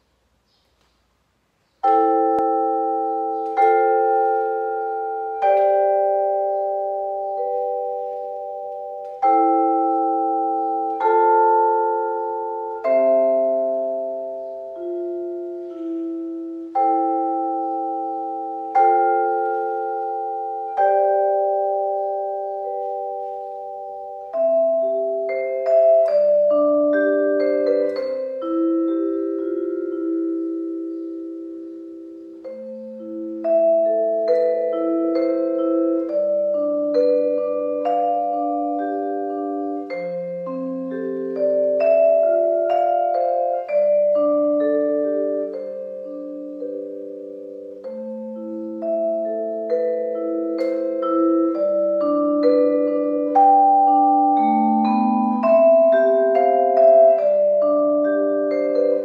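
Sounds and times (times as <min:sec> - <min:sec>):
solo vibraphone: 0:00.0 - 0:59.0.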